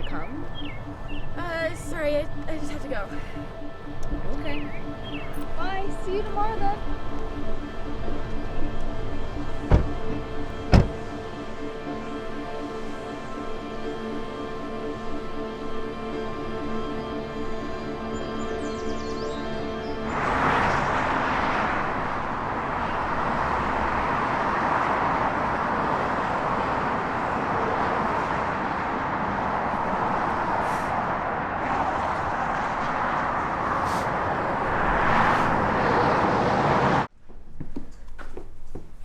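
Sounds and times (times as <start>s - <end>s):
road traffic noise: 0.0s - 38.6s.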